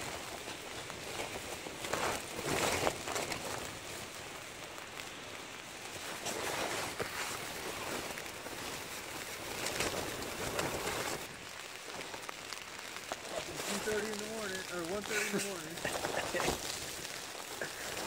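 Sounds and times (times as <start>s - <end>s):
nylon rain jacket rustling: 0.0s - 18.0s.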